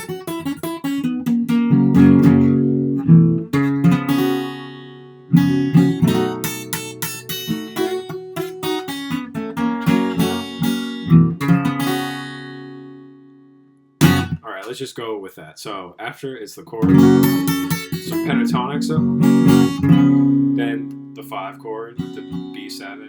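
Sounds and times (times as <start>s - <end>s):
acoustic guitar picking: 0.0s - 14.7s, 16.7s - 23.0s.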